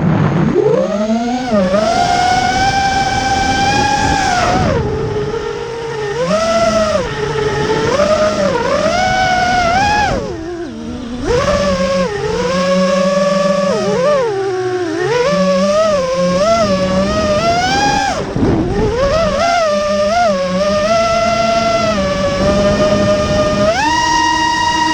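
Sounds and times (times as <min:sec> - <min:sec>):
drone motors whining: 0:00.0 - 0:24.9.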